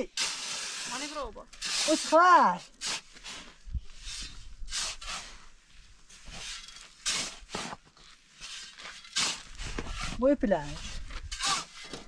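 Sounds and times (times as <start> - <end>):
short scraping strokes: 0.2 - 12.0.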